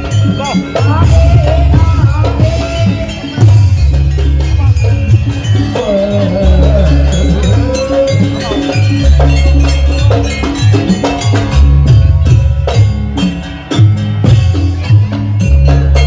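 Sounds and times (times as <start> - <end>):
gong and drum ensemble music: 0.0 - 16.0.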